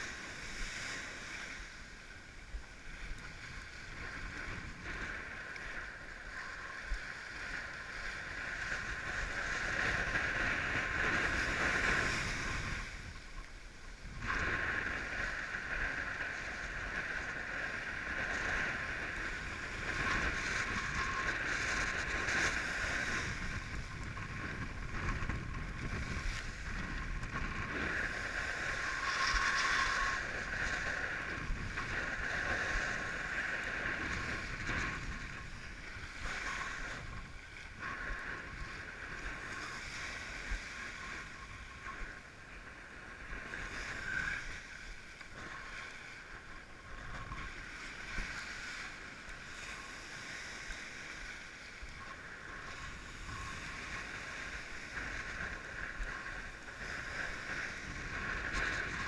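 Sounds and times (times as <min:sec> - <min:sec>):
water rushing along board: 0:00.0 - 0:59.0.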